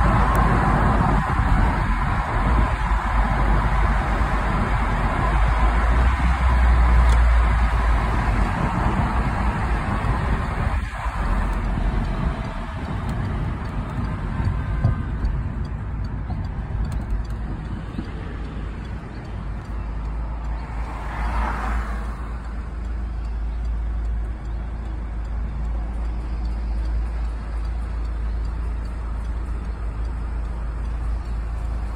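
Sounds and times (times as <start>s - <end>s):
car road noise rumble: 0.0s - 31.9s.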